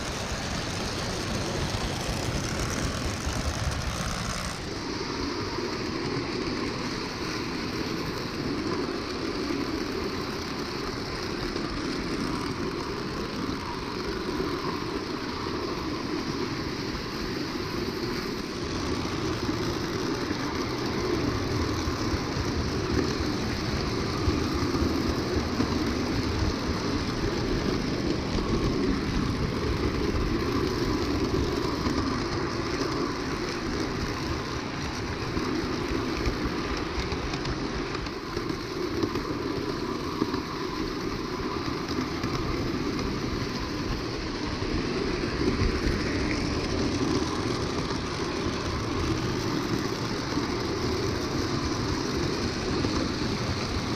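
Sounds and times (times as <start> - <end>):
toy train rumbling on track: 0.0 - 53.9.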